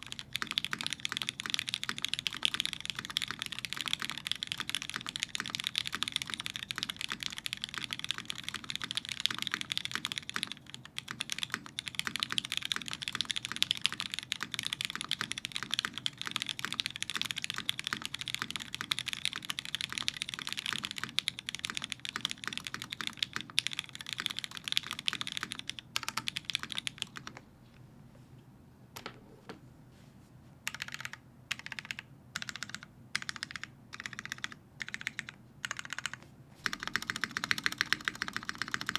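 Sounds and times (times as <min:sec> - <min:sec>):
typing on mechanical keyboard: 0:00.0 - 0:27.4, 0:30.7 - 0:38.9.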